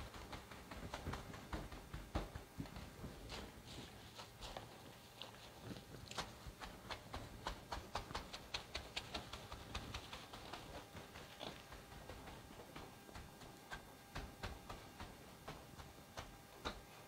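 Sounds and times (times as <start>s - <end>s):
hands patting wet wool: 0.0s - 17.0s.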